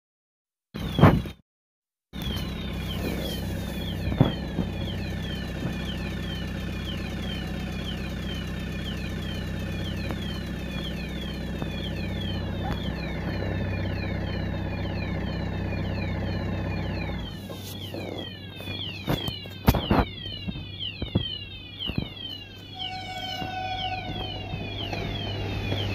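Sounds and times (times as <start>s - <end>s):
idling engine hum: 2.2s - 25.9s
level crossing warning bell: 2.2s - 25.9s.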